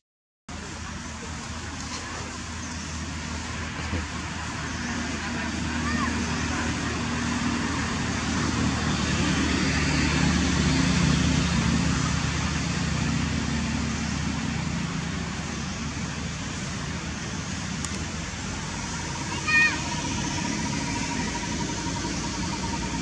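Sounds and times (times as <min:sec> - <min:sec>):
steady outdoor hiss: 0:00.5 - 0:23.0
vehicle engine hum passing: 0:00.5 - 0:23.0.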